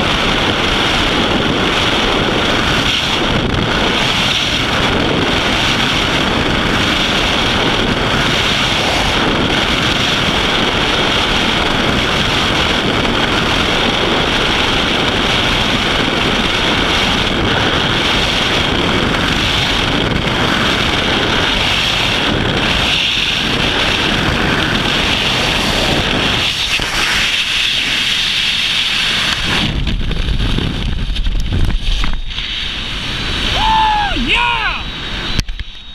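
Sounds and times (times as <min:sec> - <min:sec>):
wind rushing over microphone: 0:00.0 - 0:35.9.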